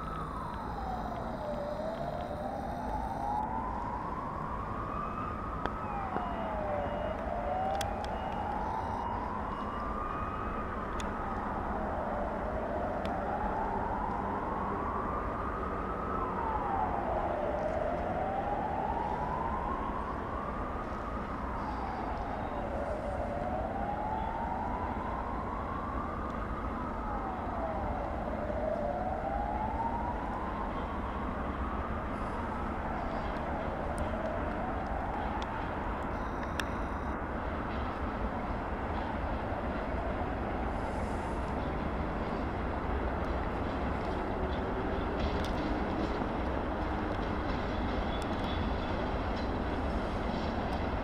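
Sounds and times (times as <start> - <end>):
wailing siren: 0.0 - 51.0.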